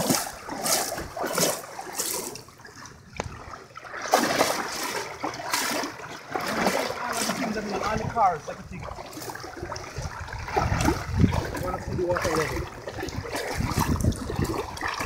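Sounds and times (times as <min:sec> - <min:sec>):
wading through water splashes: 0:00.0 - 0:15.0.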